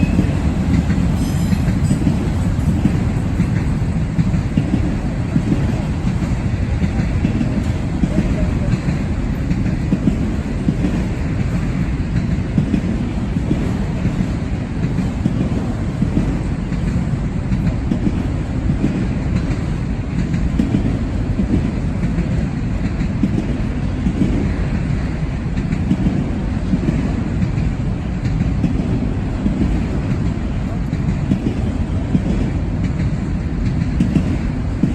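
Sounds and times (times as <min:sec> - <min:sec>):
train rolling on rails: 0:00.0 - 0:34.9.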